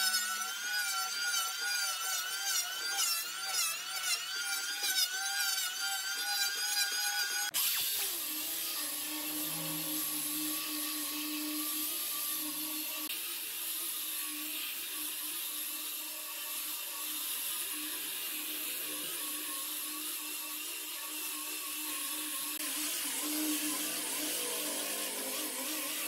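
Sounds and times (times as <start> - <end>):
power tool motor whirring: 0.0 - 26.0.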